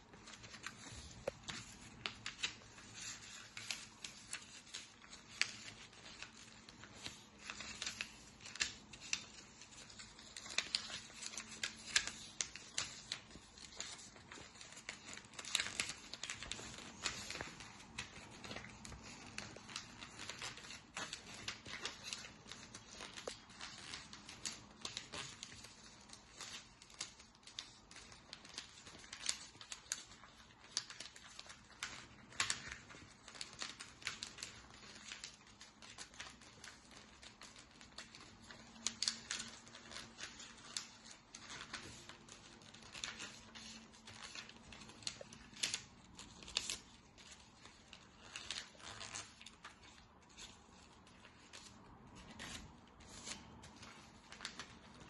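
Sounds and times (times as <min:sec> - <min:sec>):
paper crackling as folded: 0:00.0 - 0:55.0.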